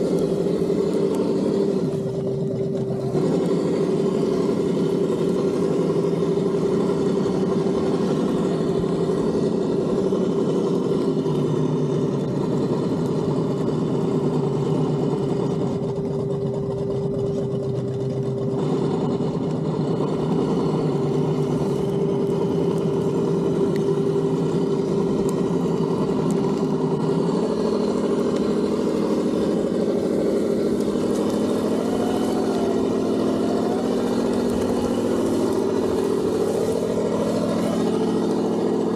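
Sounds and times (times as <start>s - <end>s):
simulated engine from speaker: 0.0s - 38.9s.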